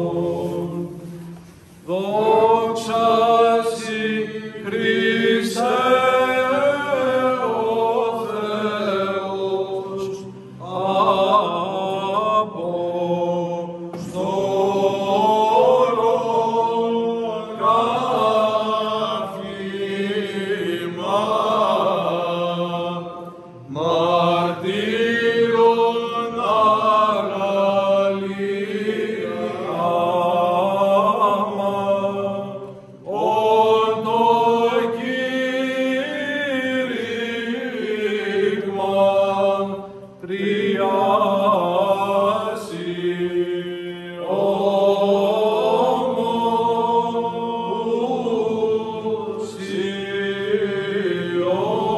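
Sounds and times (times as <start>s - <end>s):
men chanting: 1.9s - 23.1s, 23.7s - 51.9s.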